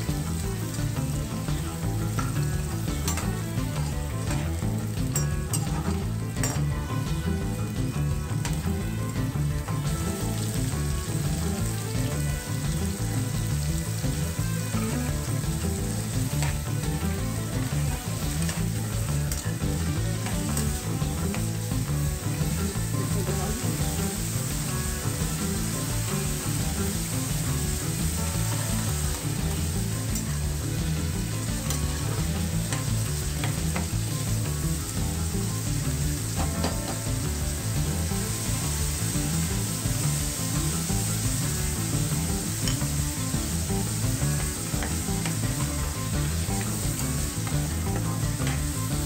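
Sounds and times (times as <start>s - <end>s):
background music with bass: 0.0s - 49.0s
vegetables sizzling in oil: 0.0s - 49.0s.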